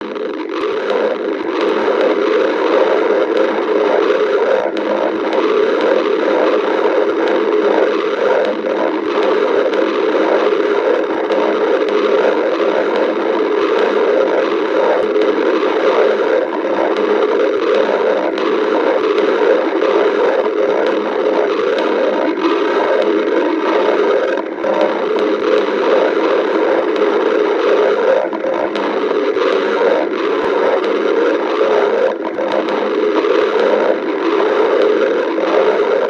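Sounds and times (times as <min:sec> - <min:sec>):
stomach growling: 0:00.0 - 0:36.0.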